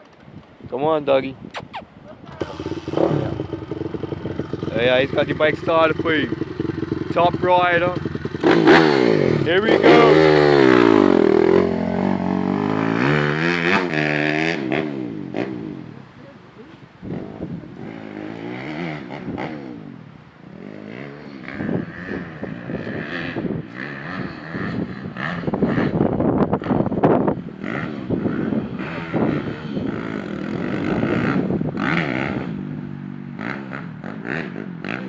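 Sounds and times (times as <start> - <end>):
dirt bike engine revving: 2.3 - 16.0, 17.0 - 35.0.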